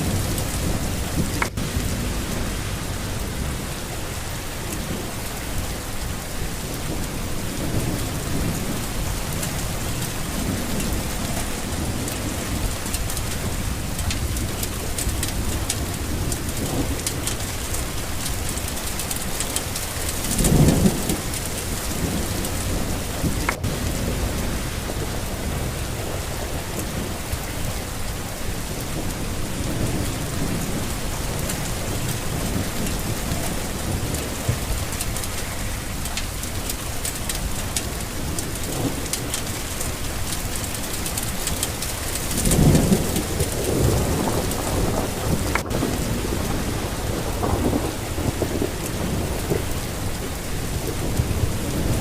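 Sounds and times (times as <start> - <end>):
steady rain falling: 0.0 - 52.0
thunder rumbling: 0.0 - 52.0.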